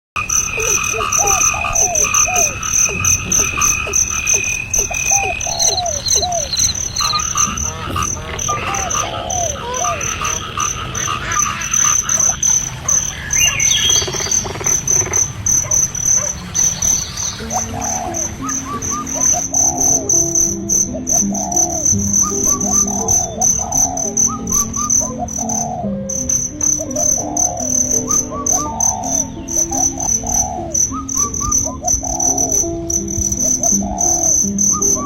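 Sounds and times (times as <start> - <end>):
frog calls: 0.2 - 35.0
high chirring: 0.2 - 35.0
pulsing insect trill: 0.2 - 35.0.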